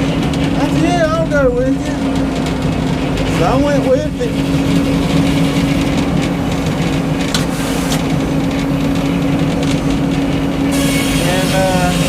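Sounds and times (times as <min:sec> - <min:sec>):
sawmill humming: 0:00.0 - 0:12.0.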